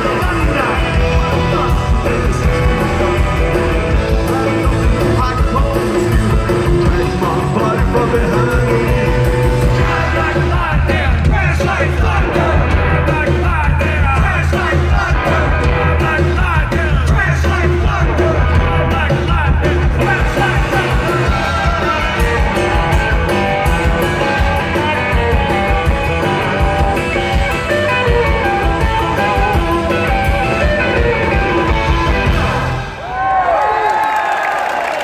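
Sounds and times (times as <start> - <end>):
person singing: 0.0 - 32.8
electric guitar: 0.0 - 33.1
bass: 0.0 - 33.7
drums: 0.0 - 35.0.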